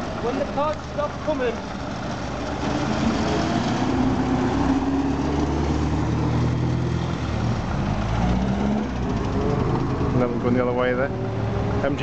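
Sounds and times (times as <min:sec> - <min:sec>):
car engine passing slowly: 0:00.0 - 0:12.0.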